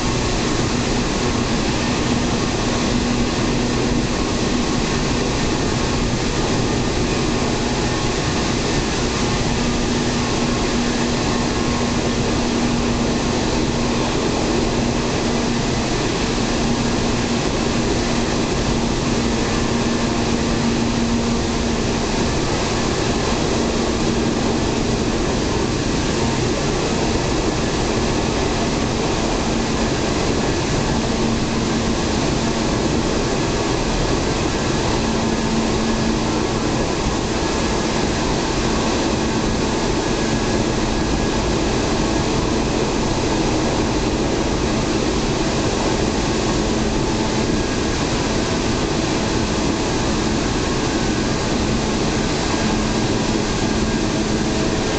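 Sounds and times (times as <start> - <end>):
low hum: 0.0 - 54.9
train wheels and air rumbling: 0.0 - 54.9.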